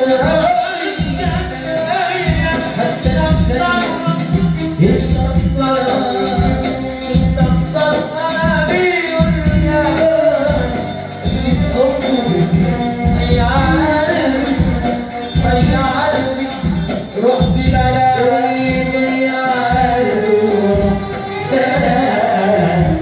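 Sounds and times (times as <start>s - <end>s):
instrumental accompaniment: 0.0s - 23.0s
man singing melismatic melody: 0.0s - 23.0s
steady percussion beat: 0.0s - 23.0s.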